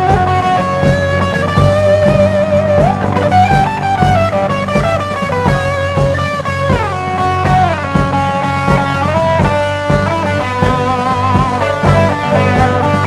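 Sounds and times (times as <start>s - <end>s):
bass and drums: 0.0s - 13.0s
electric guitar lead: 0.0s - 13.0s.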